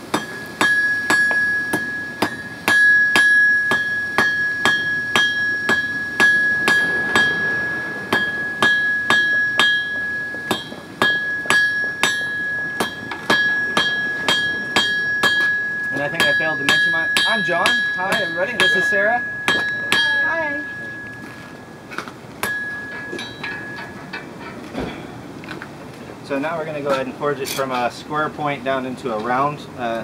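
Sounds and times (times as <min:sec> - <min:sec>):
hammer striking steel on anvil: 0:00.0 - 0:21.7, 0:22.4 - 0:25.0
anvil ringing: 0:00.0 - 0:25.1.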